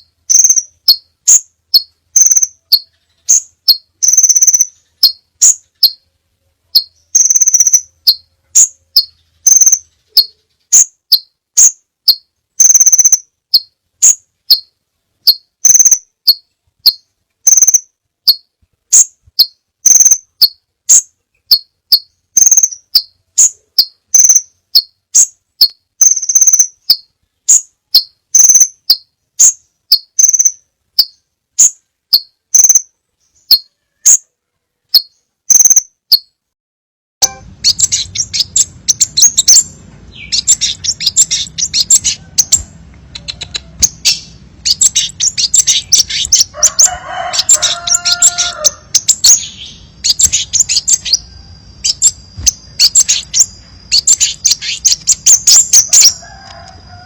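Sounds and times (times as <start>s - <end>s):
bird calling high sharp notes: 0.0s - 6.1s, 6.7s - 14.7s, 15.3s - 34.2s, 35.0s - 36.3s, 37.2s - 56.7s.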